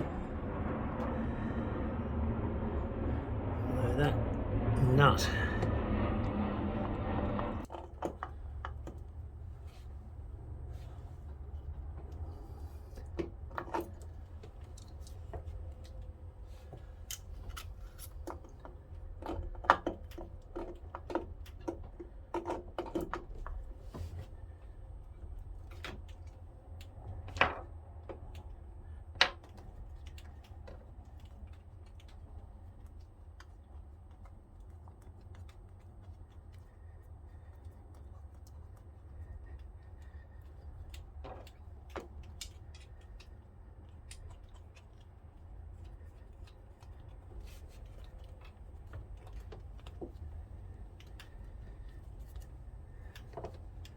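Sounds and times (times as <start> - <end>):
steady low hum: 0.0 - 22.4, 23.2 - 53.9.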